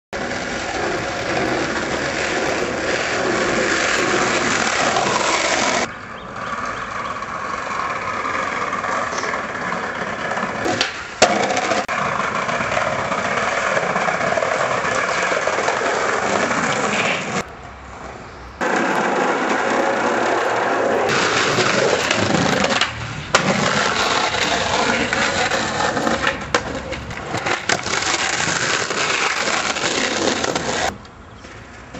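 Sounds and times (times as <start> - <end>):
skateboard wheels rolling: 0.2 - 31.9.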